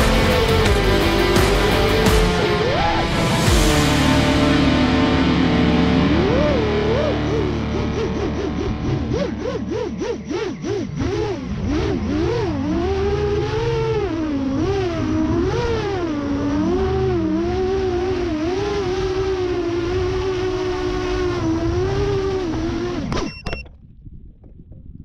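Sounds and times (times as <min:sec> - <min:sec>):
drone motors whining: 0:00.0 - 0:23.6.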